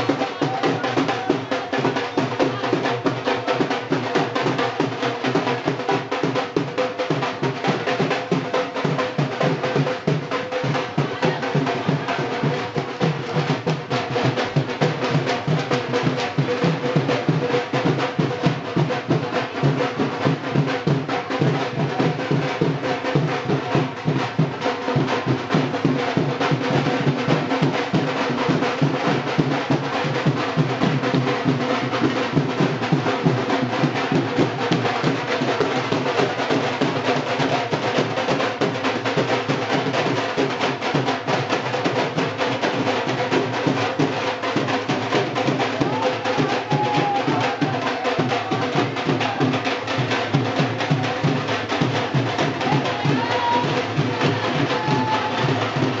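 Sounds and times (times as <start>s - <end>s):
fast procession drumming: 0.0s - 56.0s.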